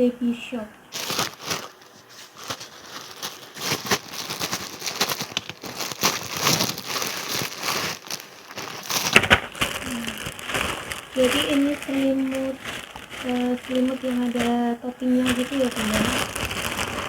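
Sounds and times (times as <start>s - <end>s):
plastic packaging crinkling: 0.9s - 17.0s.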